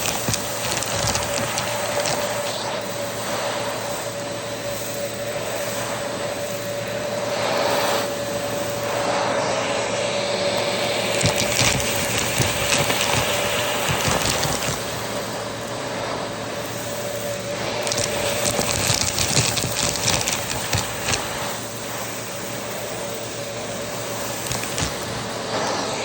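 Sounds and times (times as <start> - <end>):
debris rattling in vacuum: 0.0 - 9.0, 10.3 - 26.0
vacuum cleaner running: 0.0 - 26.0.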